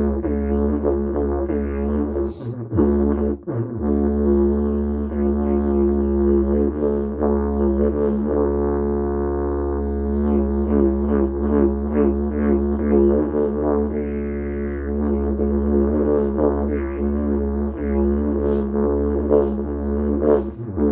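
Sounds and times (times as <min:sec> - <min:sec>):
didgeridoo drone: 0:00.0 - 0:20.9.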